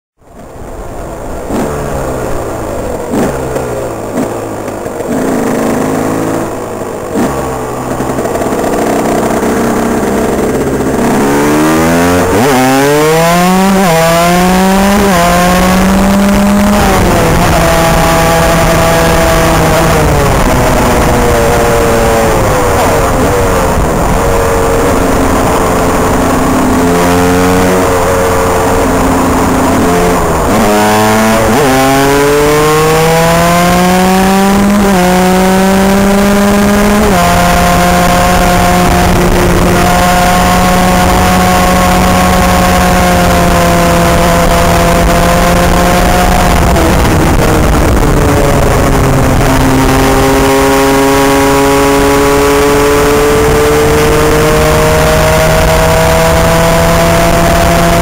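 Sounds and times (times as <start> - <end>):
motorcycle engine revving: 0.2 - 58.0.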